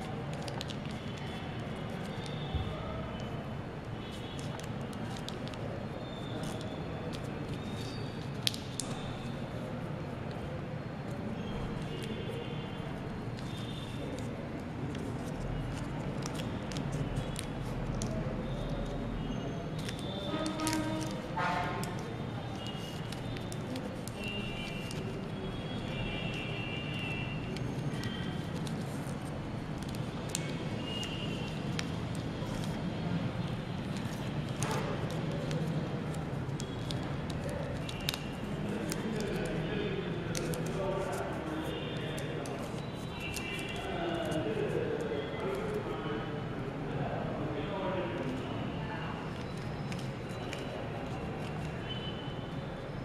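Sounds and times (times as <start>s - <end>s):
paper crackling and clicking: 0.0s - 19.1s, 19.7s - 45.9s, 49.2s - 52.2s
background noise: 0.0s - 53.0s.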